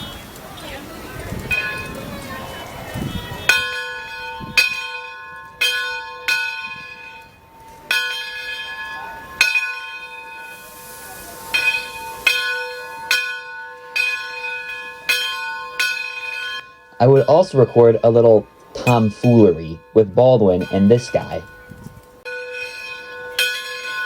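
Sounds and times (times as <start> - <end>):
locomotive bell ringing: 0.0 - 24.0.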